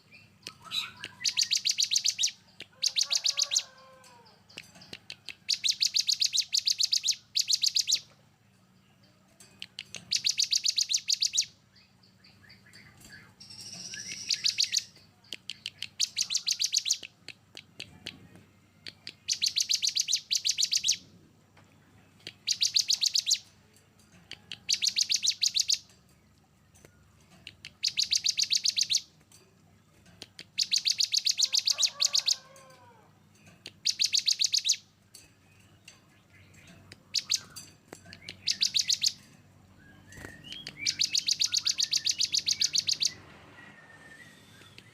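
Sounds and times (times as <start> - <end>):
songbird rattling song: 0.0 - 44.9.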